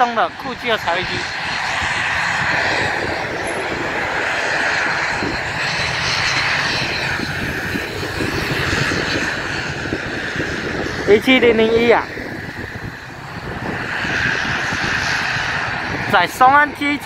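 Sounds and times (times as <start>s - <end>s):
turboprop engines running: 0.0s - 17.0s.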